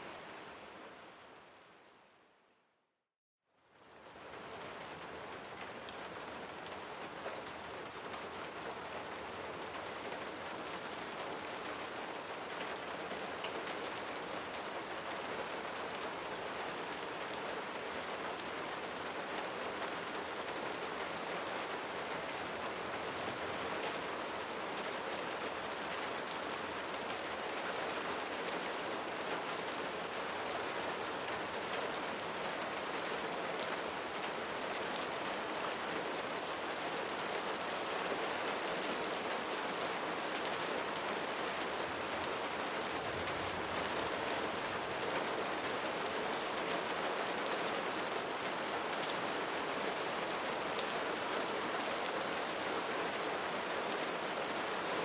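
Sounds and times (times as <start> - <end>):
rain falling: 3.7 - 55.0.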